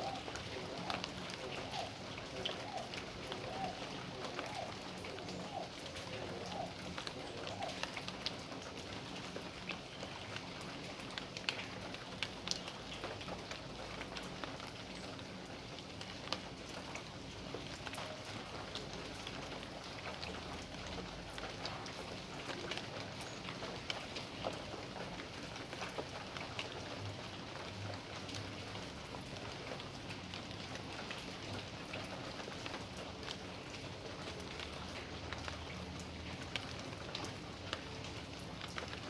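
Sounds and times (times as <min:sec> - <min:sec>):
rain drops ticking on surfaces: 0:00.0 - 0:39.0.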